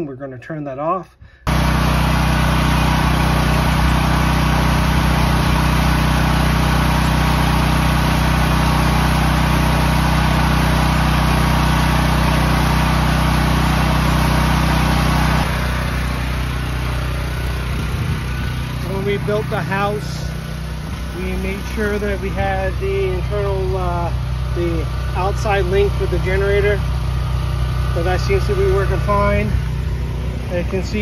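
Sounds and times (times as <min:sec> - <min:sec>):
generator engine running: 0:01.2 - 0:31.0.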